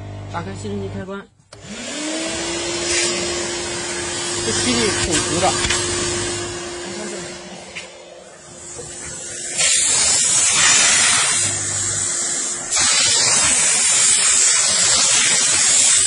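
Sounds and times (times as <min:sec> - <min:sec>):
steam jet hissing: 0:02.5 - 0:16.0.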